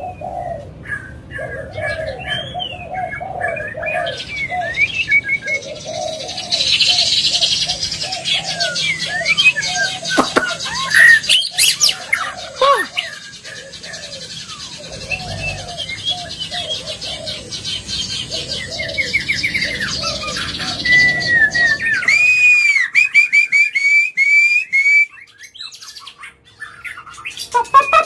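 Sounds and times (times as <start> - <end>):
bird singing: 0.0 - 28.0.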